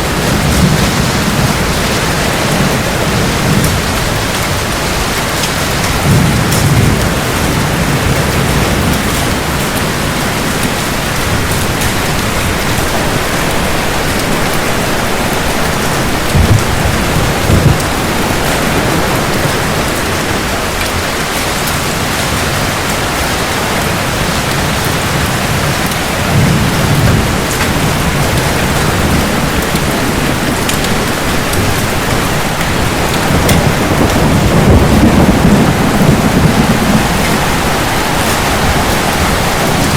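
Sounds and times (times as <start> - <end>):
heavy steady rain: 0.0 - 39.9
thunder claps: 0.0 - 39.9
thunder rumbling: 0.0 - 39.9.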